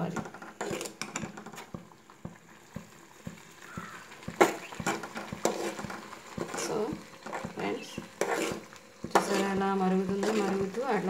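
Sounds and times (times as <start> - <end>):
ladle knocking and scraping metal pan: 0.0 - 11.0.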